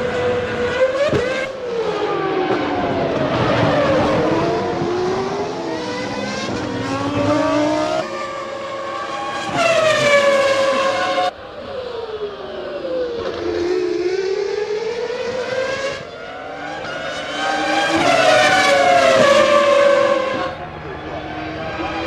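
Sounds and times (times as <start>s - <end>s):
racing car engines passing: 0.0s - 22.0s.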